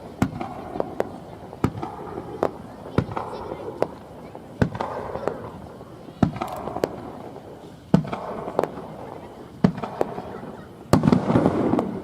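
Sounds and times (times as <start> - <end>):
fireworks bangs with echo: 0.0 - 12.0
fireworks crackle: 0.0 - 12.0.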